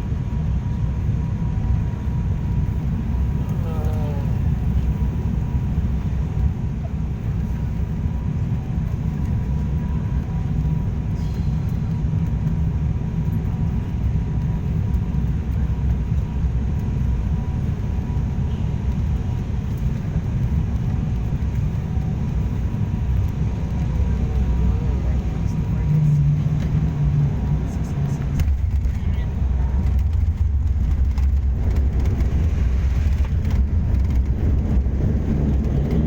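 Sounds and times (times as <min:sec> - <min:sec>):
aircraft engine rumble: 0:00.0 - 0:36.0.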